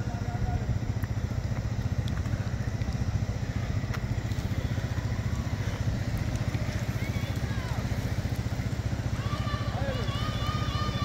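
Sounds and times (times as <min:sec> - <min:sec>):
low engine drone: 0:00.0 - 0:11.0
road noise: 0:00.0 - 0:11.0.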